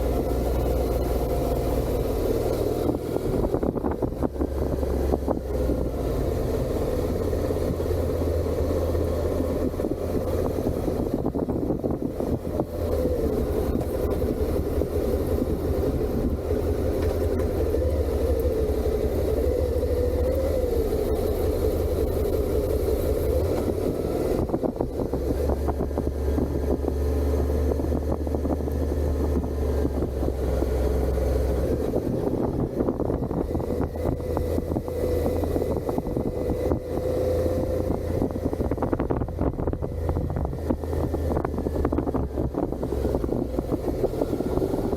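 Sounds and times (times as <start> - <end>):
motorcycle engine cruising: 0.0 - 44.9.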